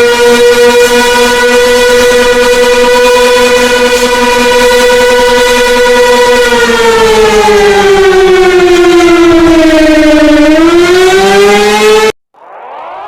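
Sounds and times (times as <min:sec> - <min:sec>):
warning siren wailing: 0:00.0 - 0:13.0.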